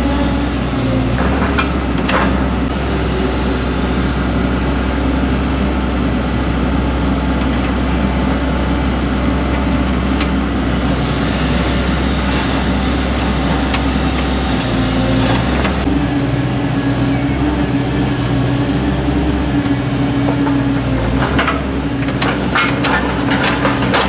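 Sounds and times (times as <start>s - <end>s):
excavator diesel engine: 0.0s - 24.0s.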